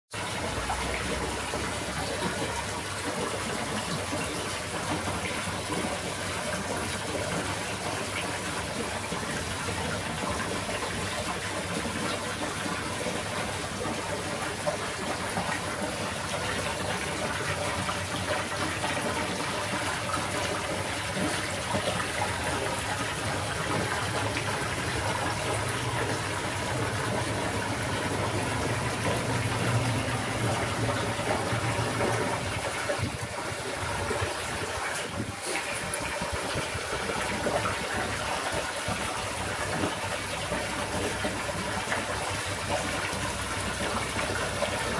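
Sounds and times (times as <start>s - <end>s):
water gushing: 0.1s - 44.9s.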